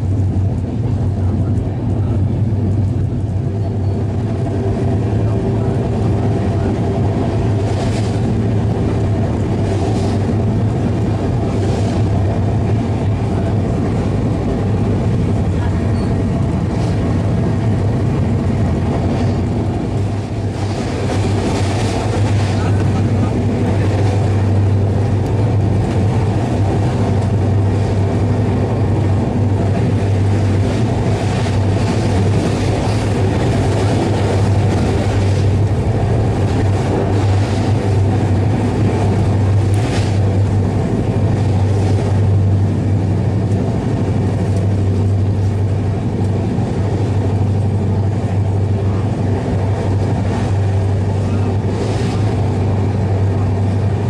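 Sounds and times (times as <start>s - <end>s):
low drone: 0.0s - 54.0s
train wheels rumbling on rails: 0.0s - 54.0s.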